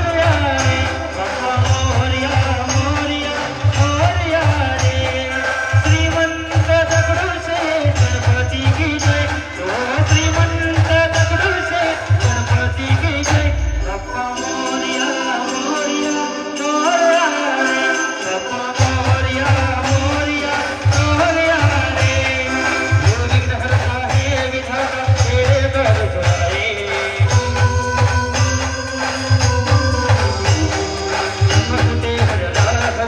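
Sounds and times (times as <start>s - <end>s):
heavy drum beat: 0.0s - 14.4s, 18.8s - 33.0s.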